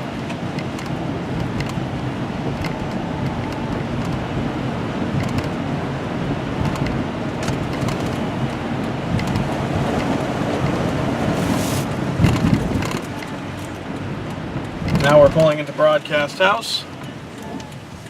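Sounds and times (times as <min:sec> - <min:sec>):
car engine hum: 0:00.0 - 0:18.0
tyres on wet slushy road: 0:00.0 - 0:18.0.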